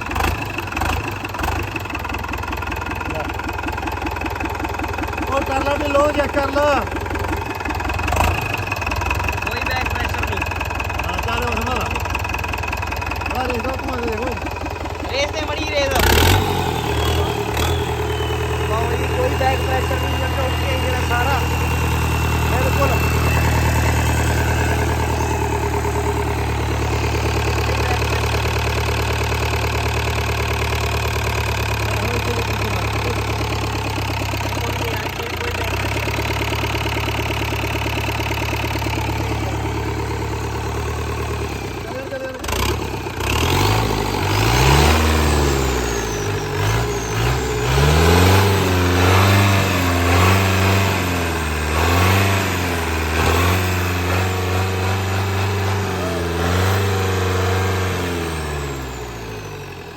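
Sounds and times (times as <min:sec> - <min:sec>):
diesel truck engine idling and revving: 0:00.0 - 0:59.9.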